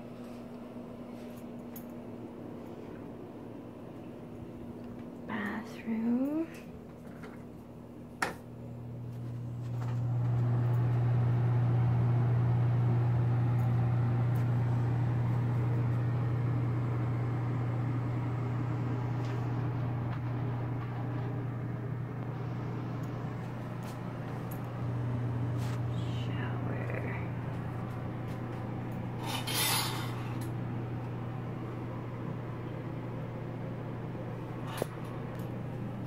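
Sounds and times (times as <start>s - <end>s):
exhaust fan humming: 0.0s - 36.0s.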